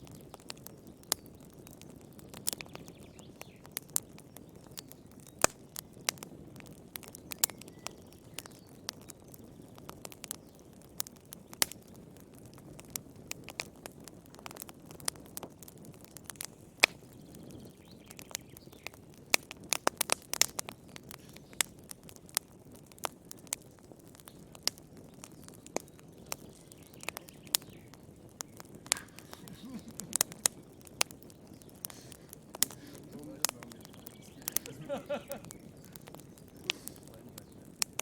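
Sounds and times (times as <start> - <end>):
low rush of flame: 0.0 - 38.0
wood fire crackling: 0.0 - 38.0.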